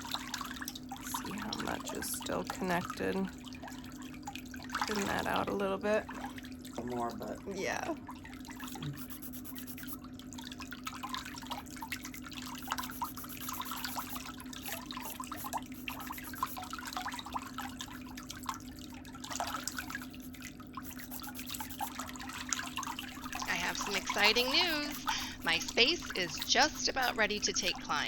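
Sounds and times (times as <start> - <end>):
steady low hum: 0.0 - 10.0, 11.1 - 28.0.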